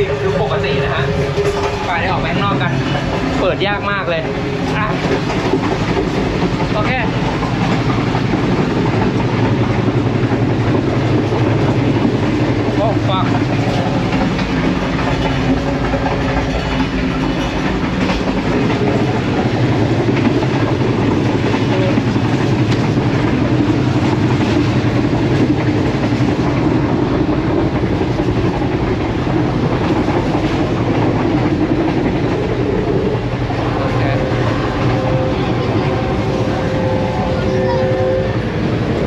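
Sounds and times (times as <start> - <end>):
train carriage rumble and rattle: 0.0 - 39.0.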